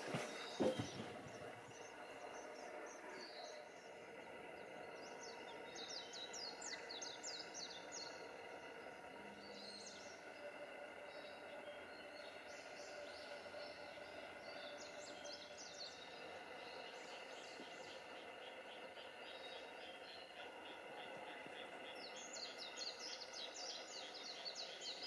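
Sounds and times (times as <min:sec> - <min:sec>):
songbird singing high sweeping notes: 0:00.0 - 0:25.0.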